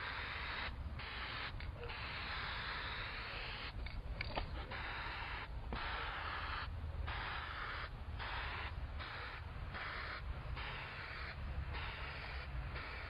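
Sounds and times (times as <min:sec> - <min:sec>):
aerosol spray can hissing: 0:00.0 - 0:03.8, 0:04.7 - 0:13.0.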